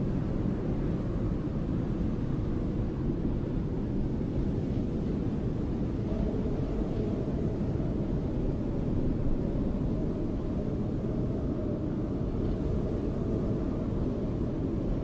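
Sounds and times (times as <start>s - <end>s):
rushing snowstorm wind: 0.0s - 15.0s.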